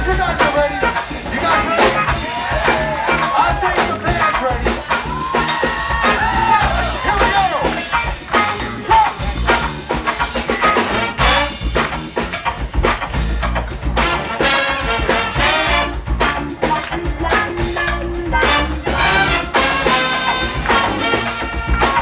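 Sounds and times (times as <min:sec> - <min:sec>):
big band playing up-tempo tune: 0:00.0 - 0:22.0
steady drum beat: 0:00.0 - 0:22.0.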